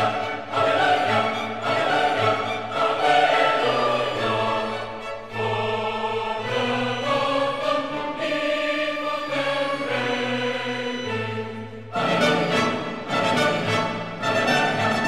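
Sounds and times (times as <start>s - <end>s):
choir singing held chords: 0.0s - 15.0s
slow classical music: 0.0s - 15.0s.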